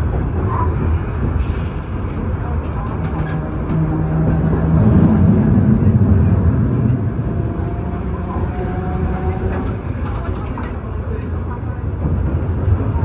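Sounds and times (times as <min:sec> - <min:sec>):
streetcar rumbling on rails: 0:00.0 - 0:13.0.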